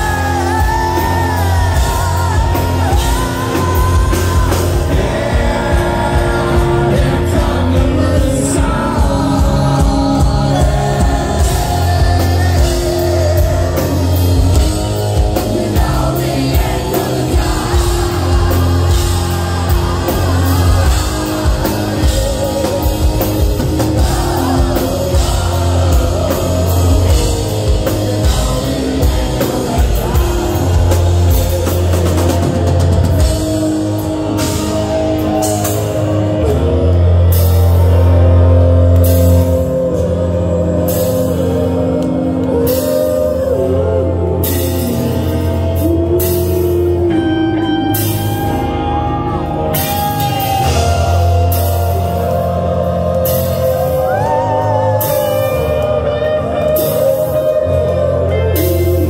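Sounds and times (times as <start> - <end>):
bass: 0.0 - 59.0
drums: 0.0 - 59.0
electric guitars: 0.0 - 59.0
person singing: 0.0 - 59.0.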